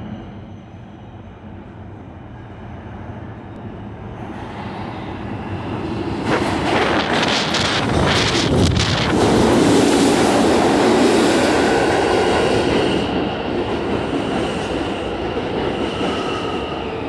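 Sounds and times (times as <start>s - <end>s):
rail clatter and wheel noise: 0.0s - 17.0s
subway train rumble: 0.0s - 17.0s.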